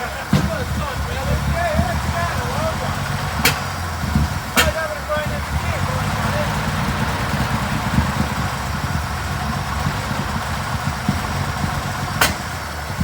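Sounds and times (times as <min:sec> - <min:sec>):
petrol engine idling unevenly: 0:00.0 - 0:13.0.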